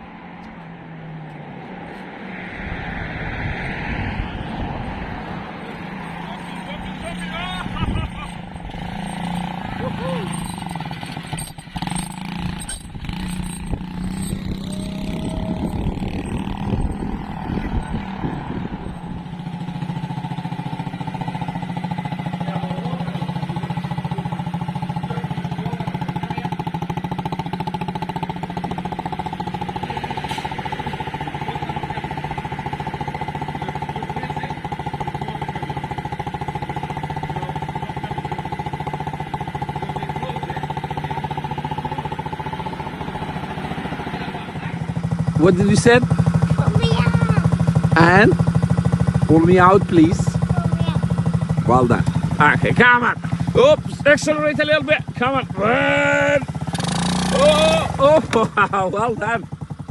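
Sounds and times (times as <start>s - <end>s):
quad bike engine running: 3.2s - 59.9s.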